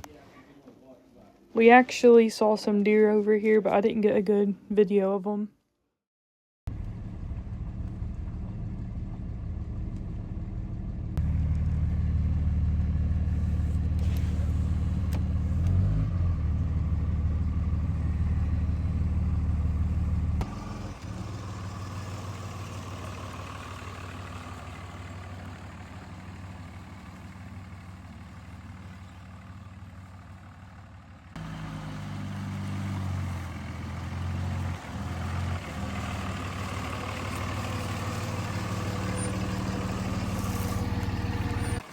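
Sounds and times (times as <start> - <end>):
farm vehicle engine humming: 6.7 - 41.9.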